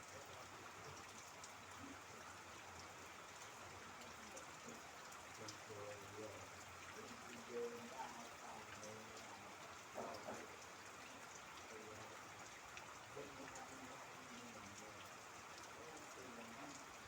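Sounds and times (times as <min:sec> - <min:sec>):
faint distant voices: 0:00.0 - 0:17.0
rain pattering: 0:00.0 - 0:17.0.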